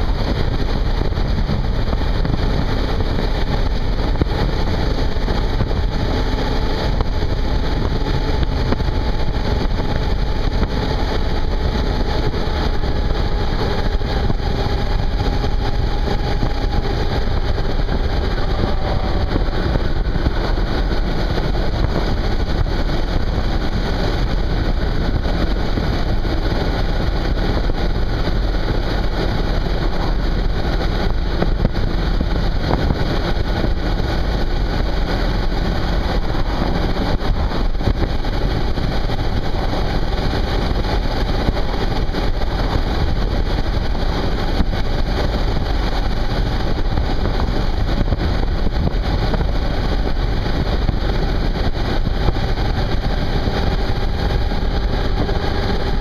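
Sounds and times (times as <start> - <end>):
motorcycle engine running: 0.0 - 56.0
wind rush: 0.0 - 56.0.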